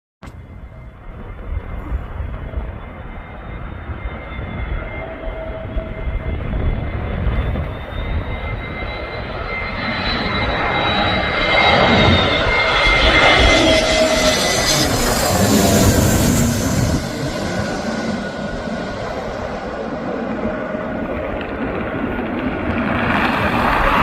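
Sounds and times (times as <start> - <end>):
airliner flying overhead: 0.2 - 24.0
high-pitched engine whine: 0.3 - 24.0.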